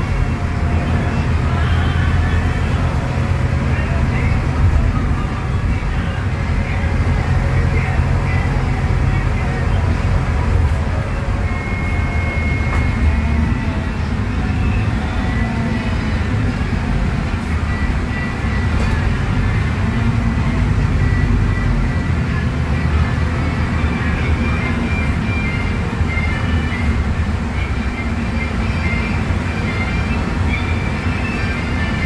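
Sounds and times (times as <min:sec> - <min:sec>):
bus diesel engine running: 0:00.0 - 0:32.0
road and body noise: 0:00.0 - 0:32.0.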